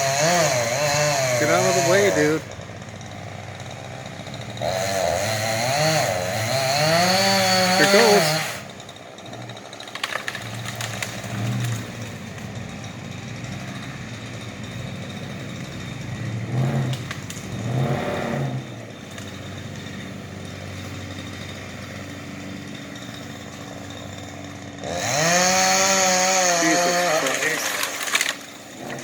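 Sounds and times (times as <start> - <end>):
chainsaw idling: 0.0 - 29.0.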